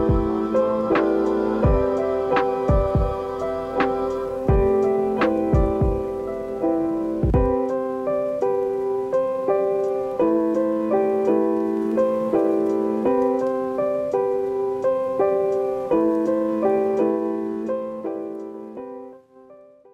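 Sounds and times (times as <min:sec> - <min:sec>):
gentle keyboard melody: 0:00.0 - 0:19.9.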